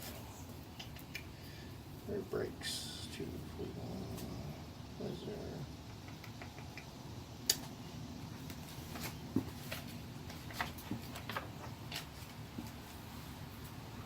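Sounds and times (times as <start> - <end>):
low room hiss: 0.0 - 14.0.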